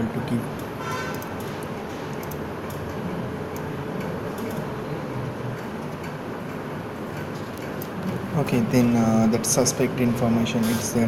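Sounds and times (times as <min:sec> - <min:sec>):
low background hum and rumble: 0:00.0 - 0:11.0.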